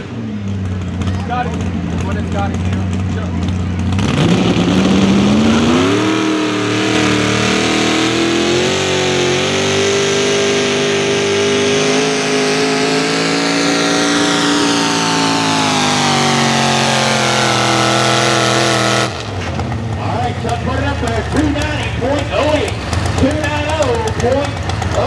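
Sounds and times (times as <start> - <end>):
engine at full throttle: 0.0 - 25.0.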